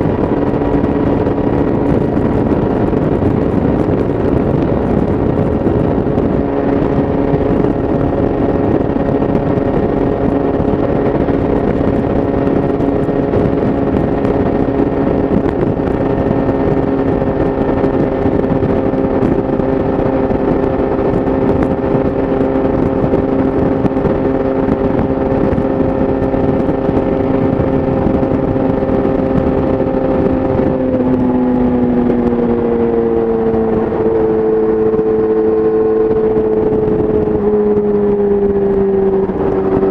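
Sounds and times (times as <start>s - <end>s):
motorcycle engine at steady speed: 0.0s - 39.9s
wind noise: 0.0s - 39.9s.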